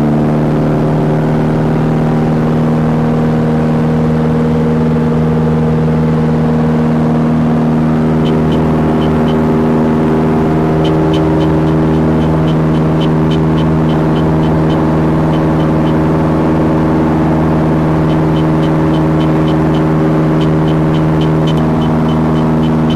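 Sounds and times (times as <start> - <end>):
propeller aircraft engine drone: 0.0 - 22.9.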